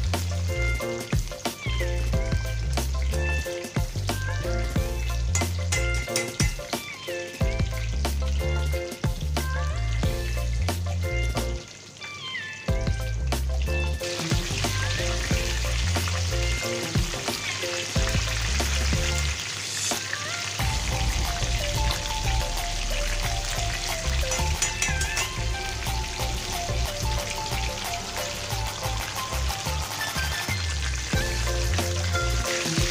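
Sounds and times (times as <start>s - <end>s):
food deep-frying in oil: 0.0s - 32.9s.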